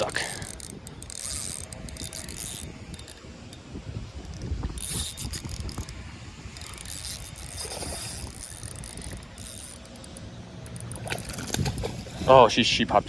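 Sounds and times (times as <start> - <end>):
fishing reel clicking: 0.0 - 12.2.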